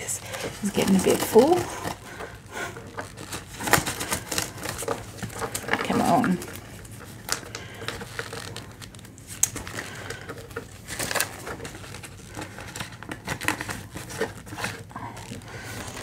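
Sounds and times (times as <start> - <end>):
plastic banknotes crinkling: 0.0 - 16.0.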